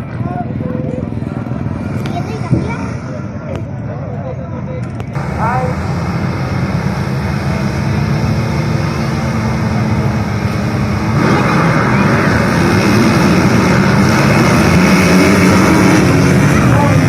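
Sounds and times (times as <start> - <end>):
motocross bike engines droning: 0.0 - 17.0.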